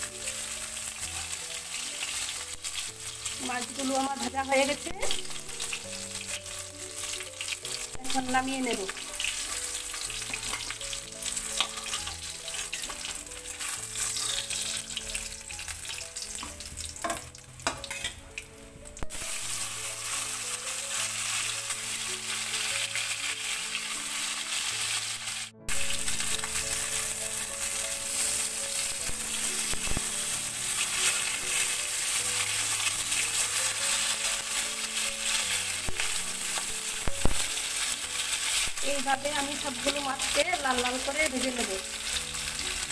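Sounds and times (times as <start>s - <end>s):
fish sizzling in hot oil: 0.0s - 42.9s.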